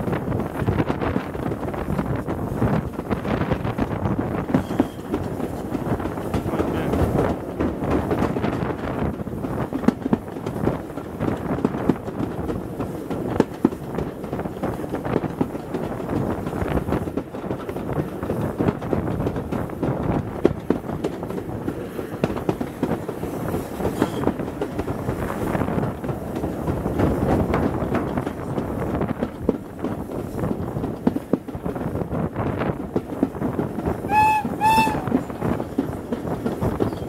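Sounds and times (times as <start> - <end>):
train wheels rumbling on track: 0.0 - 37.0
wheels clicking over rails: 0.8 - 37.0.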